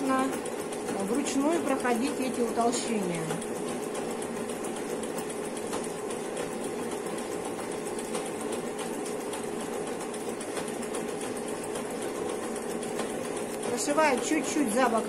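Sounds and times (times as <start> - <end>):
linking machine whirring: 0.0 - 15.0.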